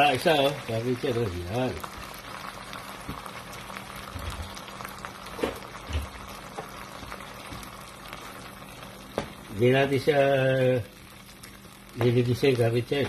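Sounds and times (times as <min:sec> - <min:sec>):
fish sizzling in a wok: 0:00.0 - 0:13.0.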